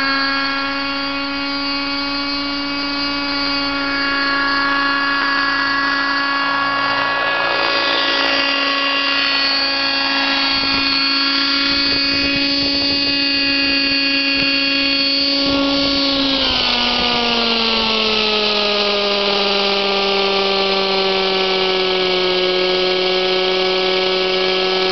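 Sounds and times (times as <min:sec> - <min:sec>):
model helicopter engine whine: 0:00.0 - 0:24.9.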